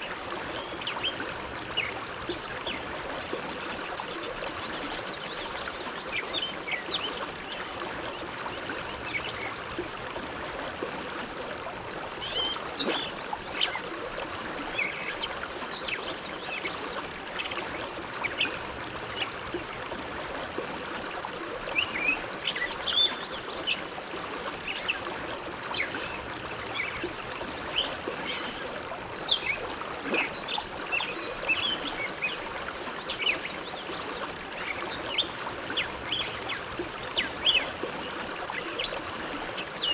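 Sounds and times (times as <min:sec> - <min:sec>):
water plinks and gurgles: 0:00.0 - 0:39.9.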